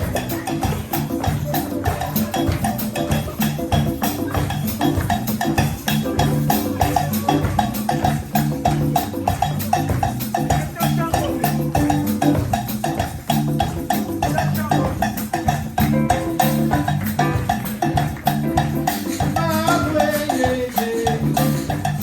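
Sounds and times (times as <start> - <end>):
dance music with percussion: 0.0 - 22.0
fast drum beat: 0.0 - 22.0
low bass notes: 0.0 - 22.0.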